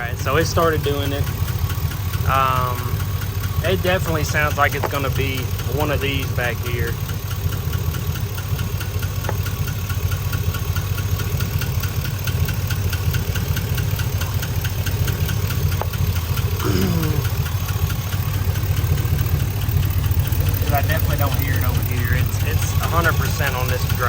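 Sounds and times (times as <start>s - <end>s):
rapid valvetrain ticking: 0.0s - 24.0s
truck engine idling: 0.0s - 24.0s.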